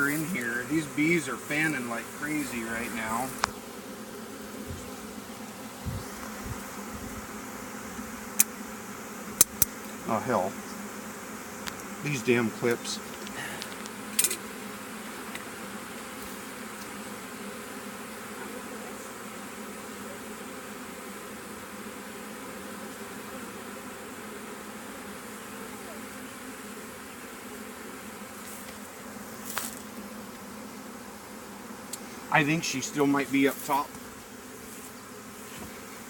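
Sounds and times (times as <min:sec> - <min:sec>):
bee swarm buzzing: 0:00.0 - 0:36.0.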